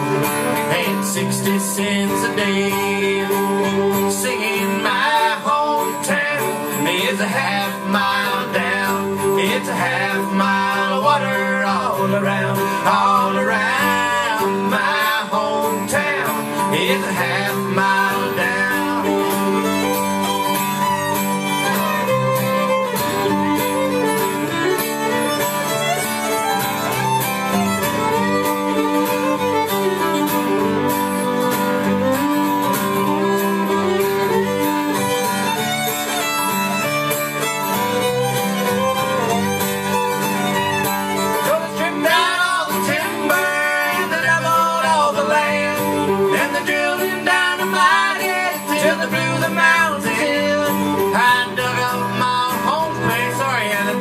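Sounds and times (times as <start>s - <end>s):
fiddle playing melody: 0.0s - 54.0s
strummed acoustic guitar: 0.0s - 54.0s.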